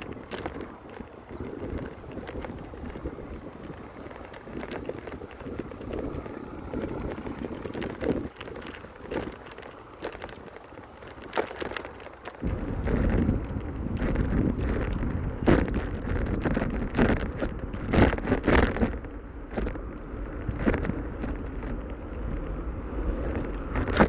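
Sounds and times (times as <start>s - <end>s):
bicycle clicks and rattles: 0.0s - 24.0s
wind rushing over microphone: 0.0s - 24.0s.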